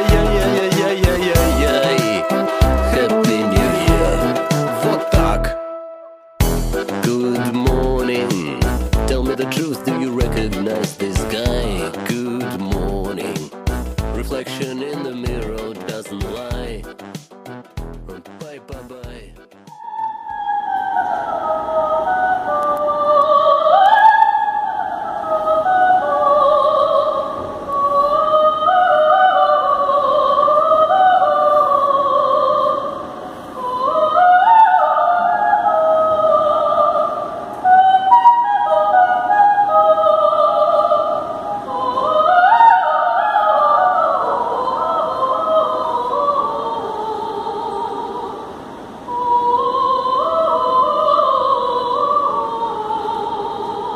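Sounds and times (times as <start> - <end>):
operatic singing: 0.0 - 53.9.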